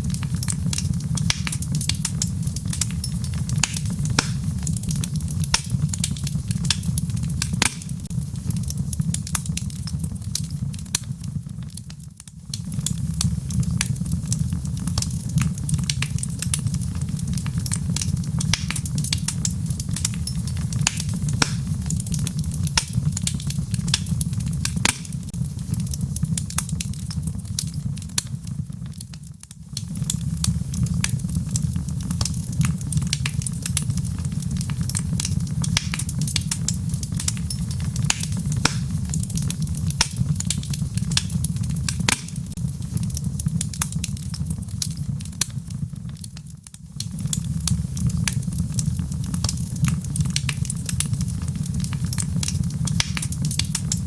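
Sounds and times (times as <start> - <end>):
fire rumbling: 0.0 - 54.0
wood crackling and popping: 0.0 - 54.0.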